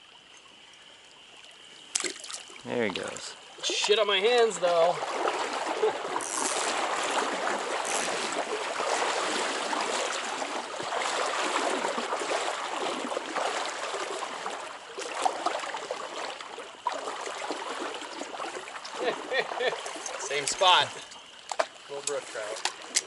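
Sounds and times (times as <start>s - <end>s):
stream water running: 0.0s - 23.0s.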